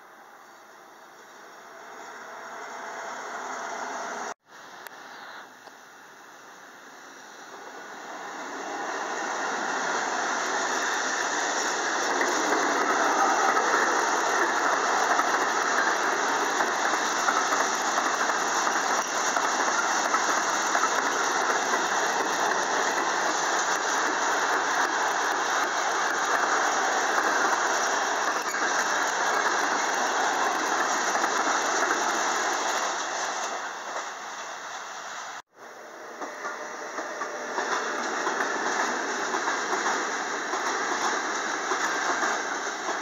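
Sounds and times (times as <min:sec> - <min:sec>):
freight train passing: 0:00.0 - 0:04.8, 0:05.9 - 0:43.0.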